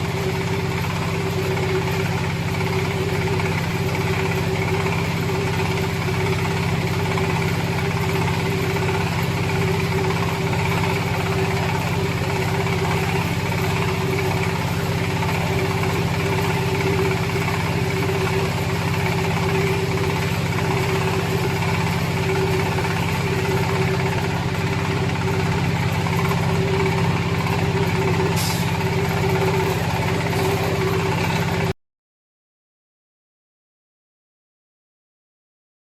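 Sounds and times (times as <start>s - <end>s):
baler machine running: 0.0s - 31.8s.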